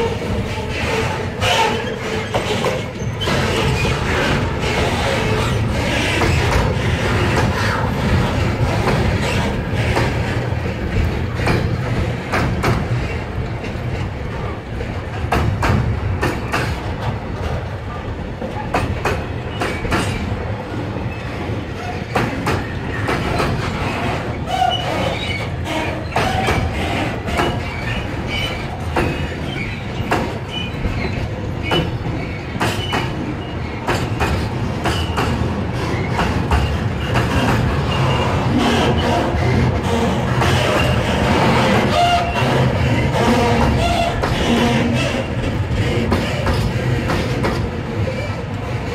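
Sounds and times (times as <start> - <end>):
train wheel squeals: 0.0 - 10.3, 19.0 - 20.4, 21.0 - 48.9
freight train rumbling: 0.0 - 48.9.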